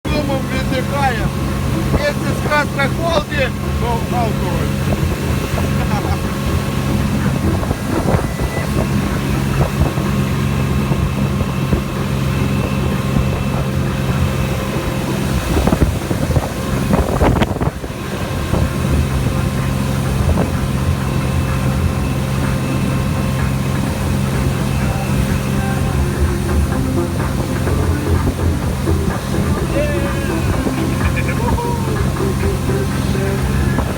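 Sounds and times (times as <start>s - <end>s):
engine droning: 0.0s - 33.9s
wind noise on microphone: 0.8s - 33.9s.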